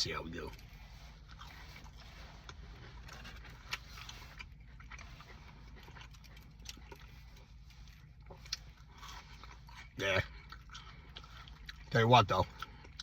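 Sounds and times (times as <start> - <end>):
steady low hum: 0.0 - 13.0
chewing crispy onion ring: 0.2 - 13.0.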